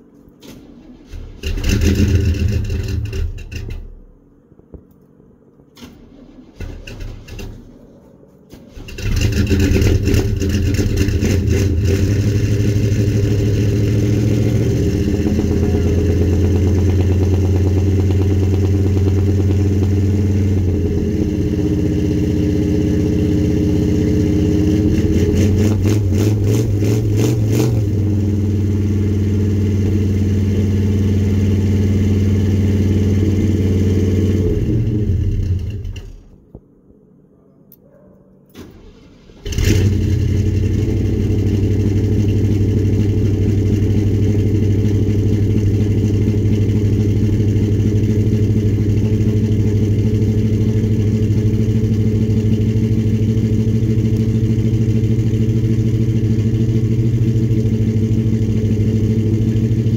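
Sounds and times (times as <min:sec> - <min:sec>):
engine cranking and running: 0:00.3 - 0:04.1, 0:05.7 - 0:07.8, 0:08.5 - 0:36.4, 0:38.5 - 0:59.9.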